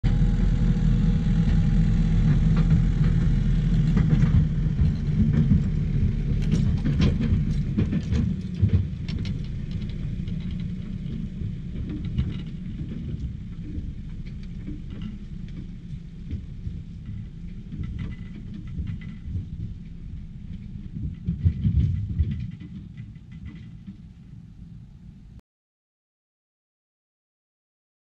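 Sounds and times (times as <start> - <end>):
low engine rumble: 0.0 - 25.4
knocks and rattles: 0.1 - 24.3.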